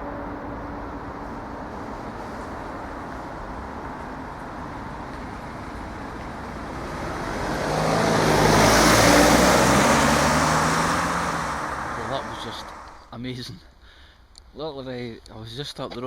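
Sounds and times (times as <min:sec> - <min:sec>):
vehicle passing on road: 0:00.0 - 0:13.1.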